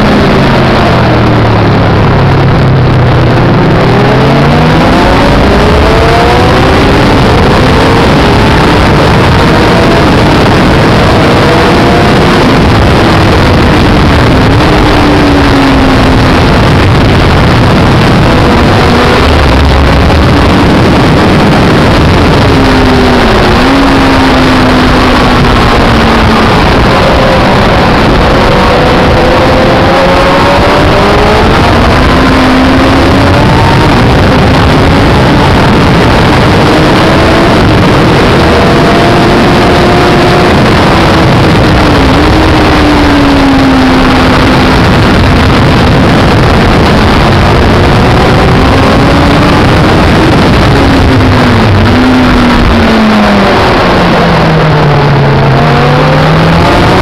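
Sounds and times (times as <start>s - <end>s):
motorcycle engine revving: 0.0s - 57.0s
wind rushing on microphone: 0.0s - 57.0s.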